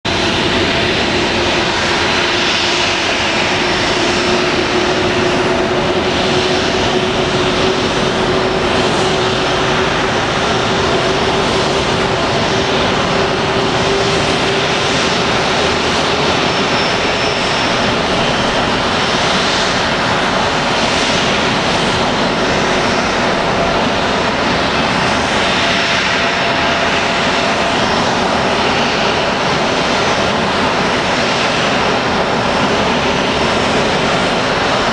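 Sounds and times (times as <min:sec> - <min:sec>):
jet engine rushing: 0:00.0 - 0:34.9.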